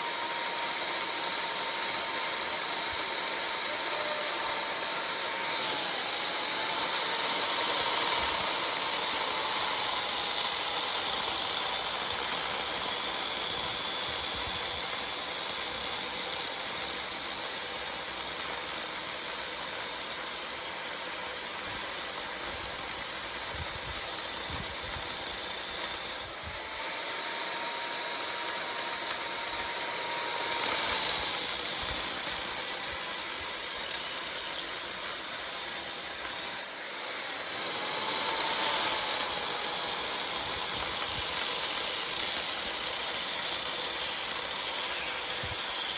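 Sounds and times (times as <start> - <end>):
power tool motor whining: 0.0 - 45.9.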